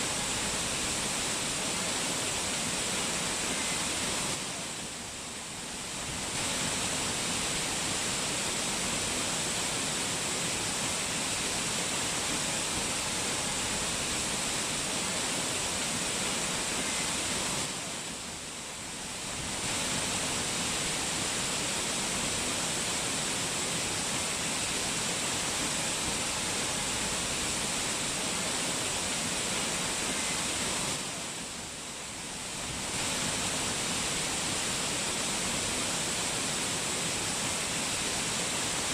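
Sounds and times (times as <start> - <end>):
rushing mountain water: 0.0 - 38.9.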